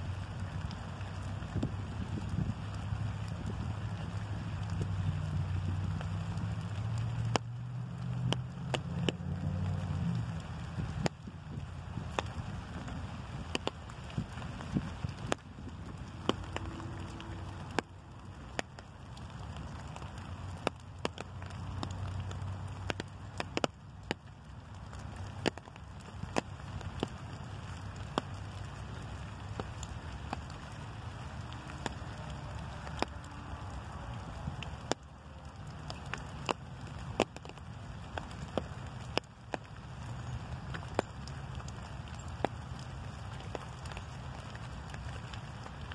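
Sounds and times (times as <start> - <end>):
steady low rumble: 0.0 - 41.8
light rain: 0.0 - 45.9
raindrops ticking: 0.0 - 45.9.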